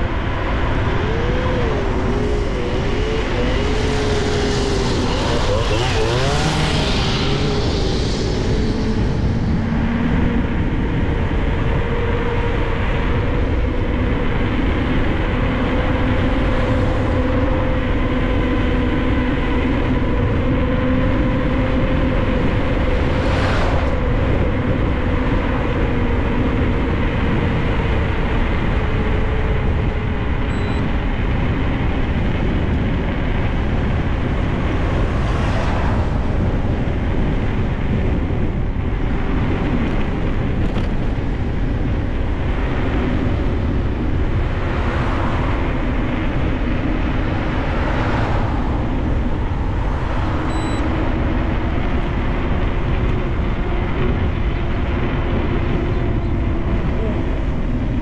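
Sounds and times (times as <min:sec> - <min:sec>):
steady humming tone: 0:00.0 - 0:58.0
wind rushing: 0:00.0 - 0:58.0.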